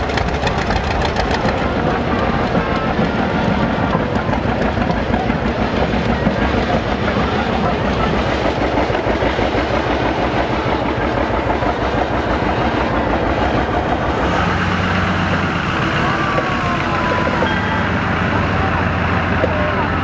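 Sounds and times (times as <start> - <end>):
deep engine hum: 0.0 - 20.0
tractor engine running: 0.0 - 20.0.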